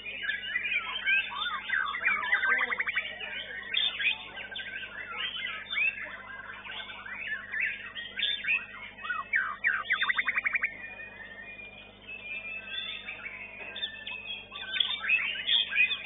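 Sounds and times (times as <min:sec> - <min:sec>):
bird fast trill: 0:00.0 - 0:16.0
bird singing whistles and chatters: 0:00.0 - 0:16.0.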